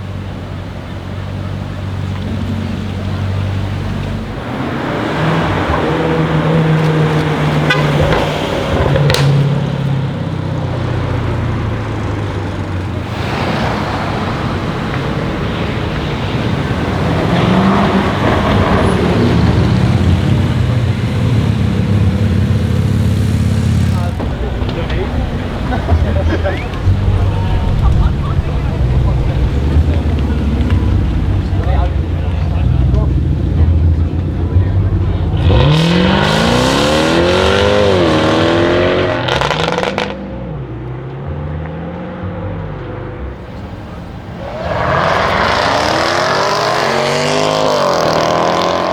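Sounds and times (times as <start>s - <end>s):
car engine idling: 0.0s - 37.7s, 42.6s - 48.4s
exhaust crackles: 0.0s - 41.1s, 42.6s - 48.9s.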